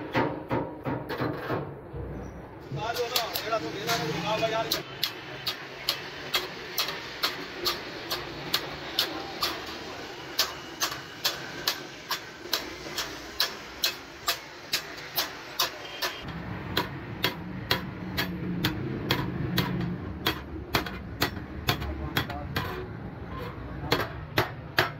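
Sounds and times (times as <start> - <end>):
hammer tapping sheet metal: 2.7 - 24.9.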